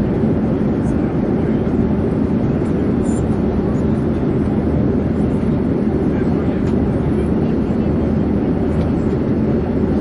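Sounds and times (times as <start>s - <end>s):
airplane low rumble: 0.0s - 10.0s.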